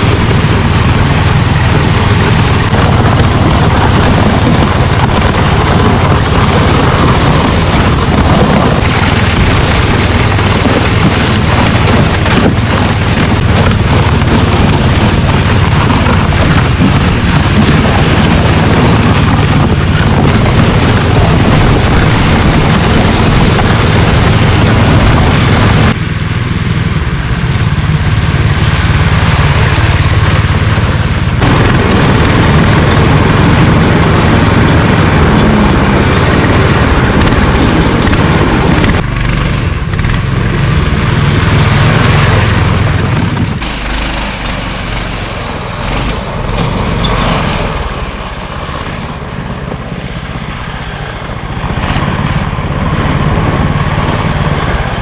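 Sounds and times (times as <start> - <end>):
snow tow engine under load: 0.0 - 55.0.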